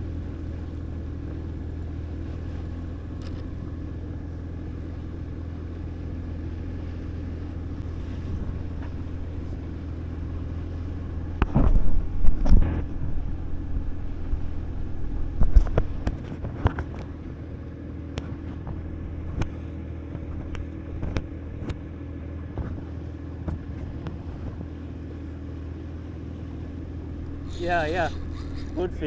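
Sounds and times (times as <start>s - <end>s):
boat motor humming: 0.0s - 29.0s.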